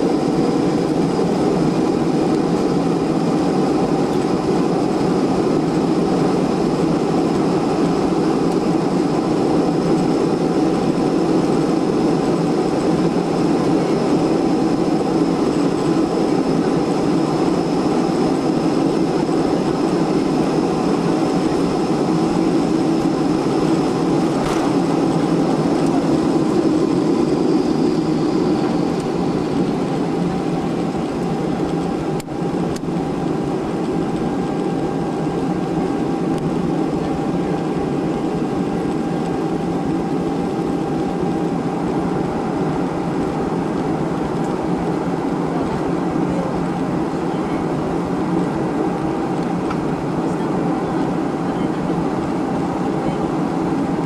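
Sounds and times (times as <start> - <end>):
jet cabin rushing drone: 0.0 - 54.0.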